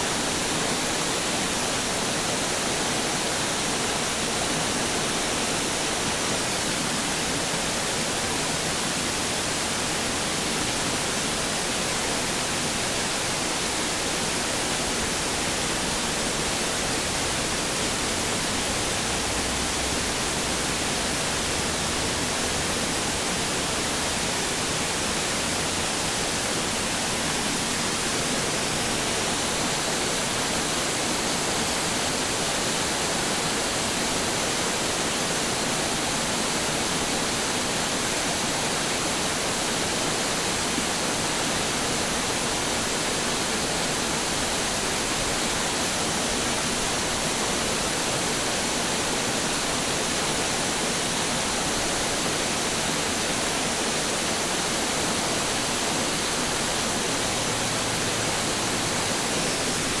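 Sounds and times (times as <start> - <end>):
small waterfall rushing: 0.0 - 60.0.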